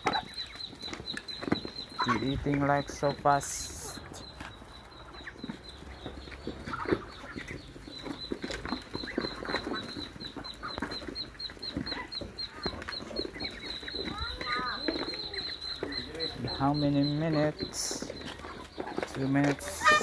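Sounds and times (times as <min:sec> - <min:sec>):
birds pecking and scuffling: 0:00.0 - 0:20.0
chickens clucking: 0:00.0 - 0:20.0
faint high chirp: 0:00.2 - 0:18.7.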